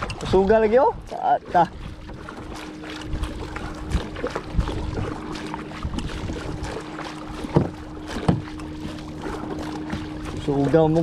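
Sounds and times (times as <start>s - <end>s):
paddle knocking plastic hull: 0.0s - 11.0s
paddle splashes: 0.0s - 11.0s
wind on microphone: 0.0s - 11.0s.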